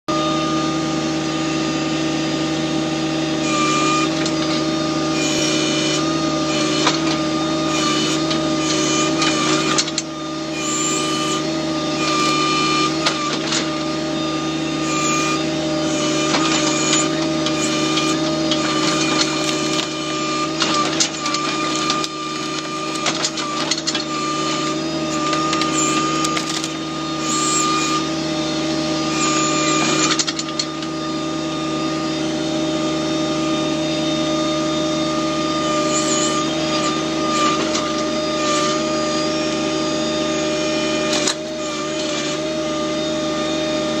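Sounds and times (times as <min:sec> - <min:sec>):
tractor diesel engine running: 0:00.1 - 0:44.0.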